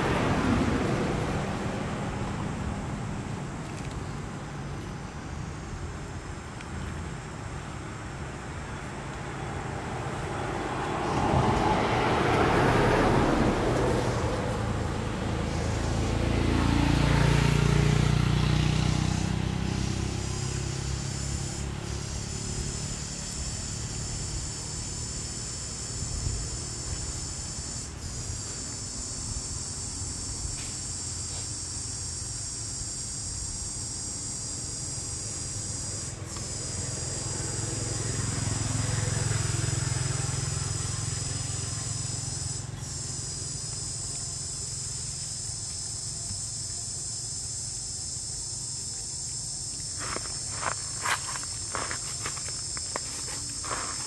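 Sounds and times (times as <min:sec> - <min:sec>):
low vehicle rumble: 0:00.0 - 0:47.1
insect drone: 0:00.0 - 0:54.0.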